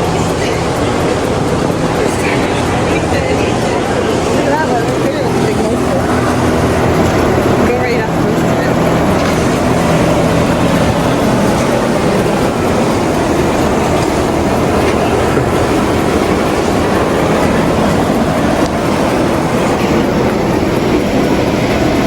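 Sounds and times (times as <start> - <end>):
big motor running: 0.0 - 22.0.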